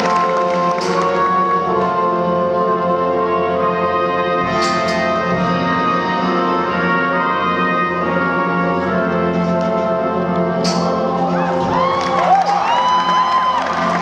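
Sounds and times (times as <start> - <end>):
music with slow sustained chords: 0.0 - 14.0.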